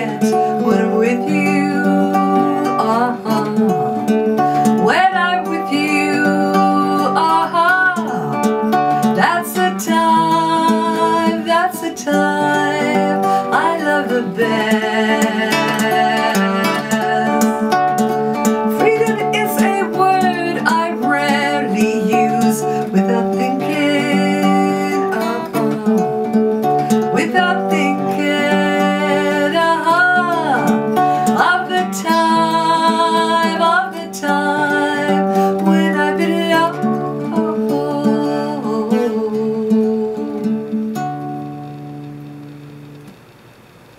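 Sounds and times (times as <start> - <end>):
woman singing: 0.0 - 41.3
classical guitar chords: 0.0 - 43.6.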